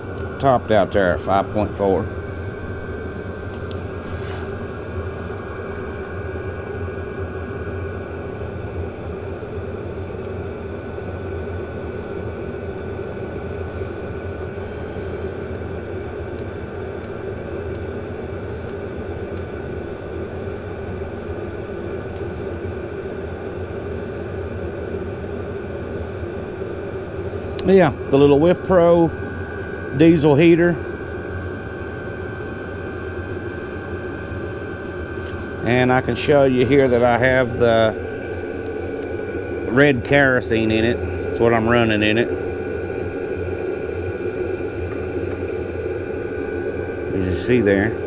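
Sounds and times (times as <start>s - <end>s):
diesel heater whirring: 0.0s - 48.0s.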